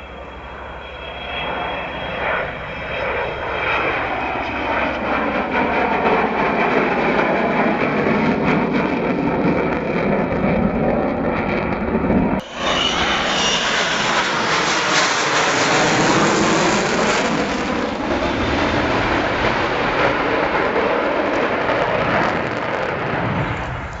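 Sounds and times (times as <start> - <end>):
loud steady jet noise: 0.0 - 24.0.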